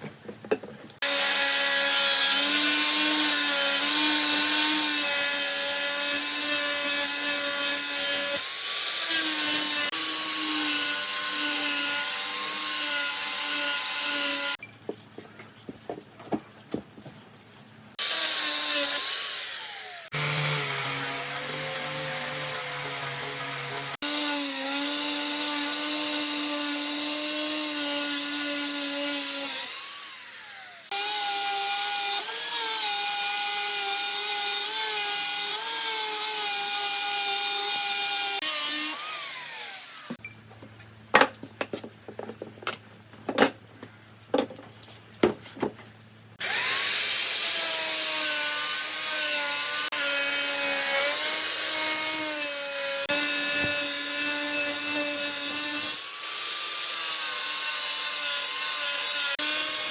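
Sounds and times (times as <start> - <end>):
power tool cutting wood: 1.0 - 14.6, 18.0 - 40.2, 46.4 - 59.9.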